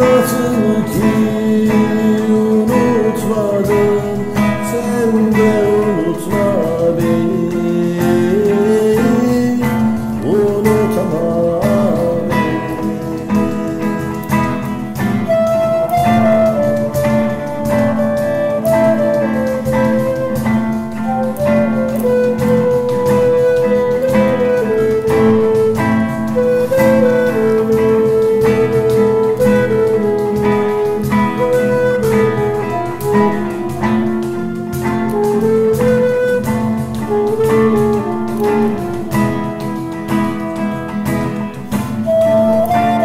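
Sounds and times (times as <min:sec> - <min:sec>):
cajon beat: 0:00.0 - 0:43.0
classical guitar: 0:00.0 - 0:43.0
flute melody: 0:00.0 - 0:43.0.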